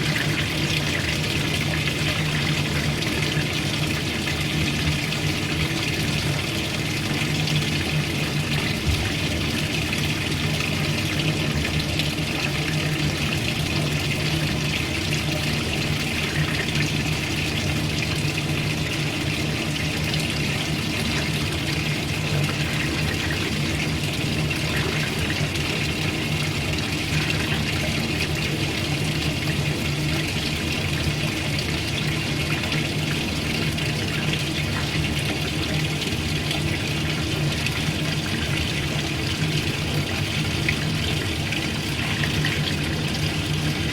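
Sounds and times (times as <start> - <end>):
low motor hum: 0.0 - 43.9
water churning in washing machine: 0.0 - 43.9.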